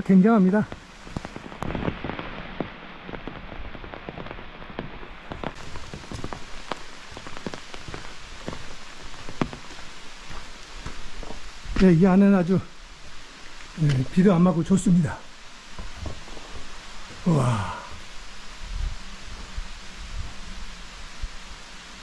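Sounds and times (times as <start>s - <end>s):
steady rain hiss: 0.0s - 22.0s
raindrops ticking close by: 0.1s - 17.8s.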